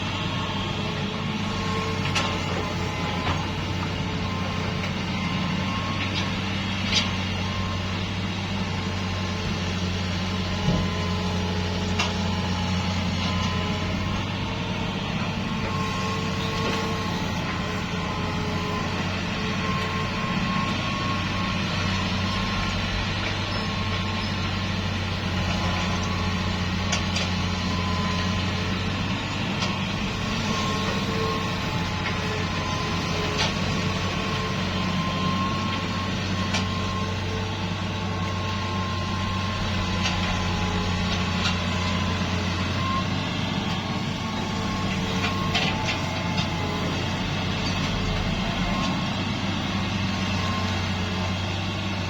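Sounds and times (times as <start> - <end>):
diesel machinery engine drone: 0.0 - 52.0.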